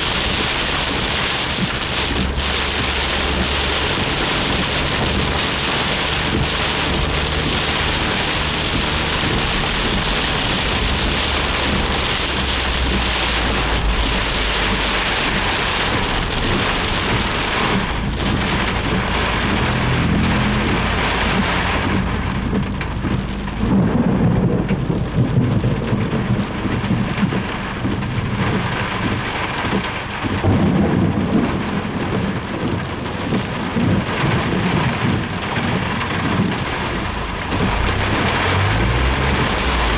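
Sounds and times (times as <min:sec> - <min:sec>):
car engine and road noise: 0:00.0 - 0:39.9
heavy rain drumming on a car: 0:00.0 - 0:39.9
low rumbling: 0:00.0 - 0:39.9.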